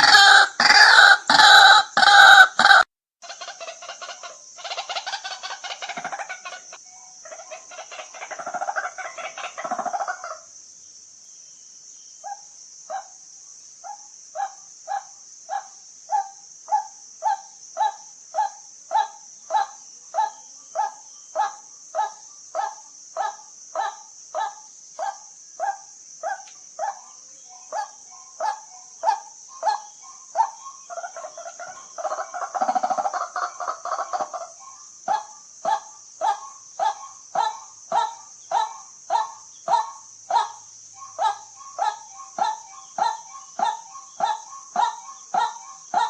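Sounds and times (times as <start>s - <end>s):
waterhen kwak calls: 0.0s - 10.4s, 13.8s - 46.0s
steady high hiss: 0.0s - 46.0s.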